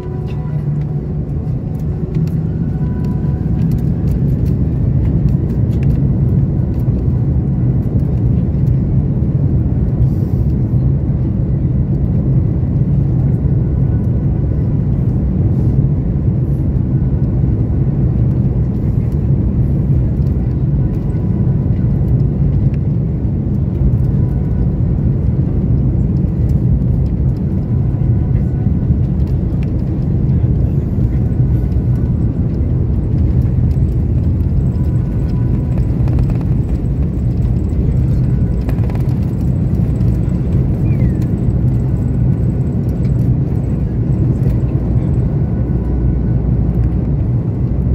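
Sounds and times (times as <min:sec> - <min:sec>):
engine rumble and hum: 0:00.0 - 0:47.9
faint steady whine: 0:00.0 - 0:47.9.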